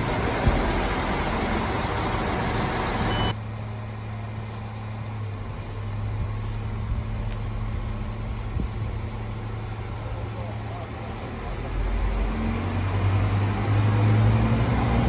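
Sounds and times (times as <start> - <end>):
diesel train engine humming: 0.0 - 15.0.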